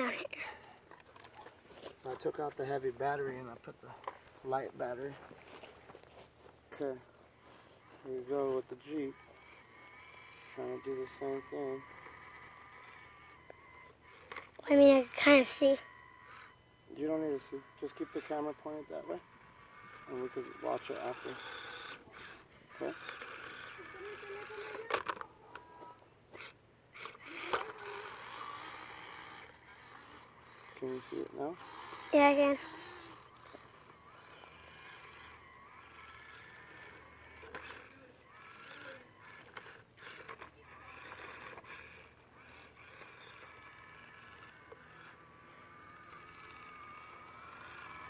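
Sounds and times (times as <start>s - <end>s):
small electric motor whining: 0.0s - 48.0s.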